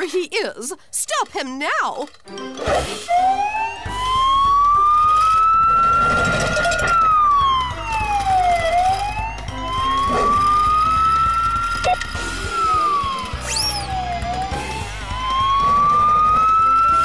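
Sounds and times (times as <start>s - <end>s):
wailing siren: 3.1s - 17.0s.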